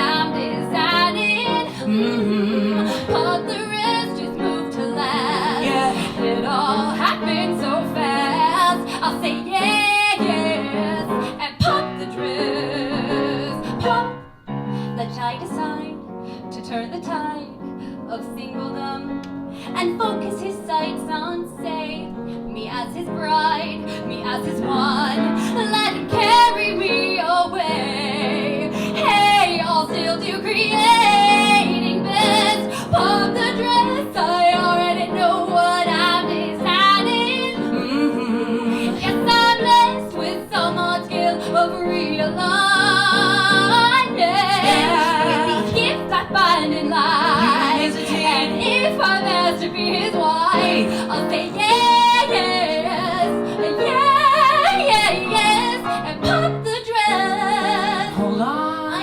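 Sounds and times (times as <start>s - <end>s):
woman singing: 0.0s - 59.0s.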